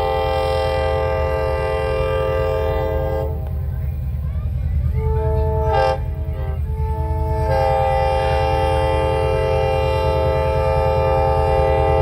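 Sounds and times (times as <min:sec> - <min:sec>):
locomotive chime horn blasts: 0:00.0 - 0:03.6, 0:04.9 - 0:12.0.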